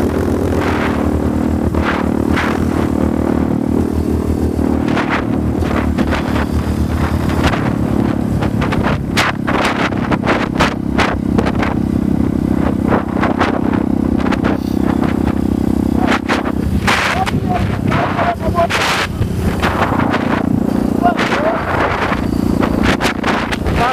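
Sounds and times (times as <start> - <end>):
dirt bike engine running: 0.0 - 23.9
wind buffeting microphone: 0.0 - 23.9.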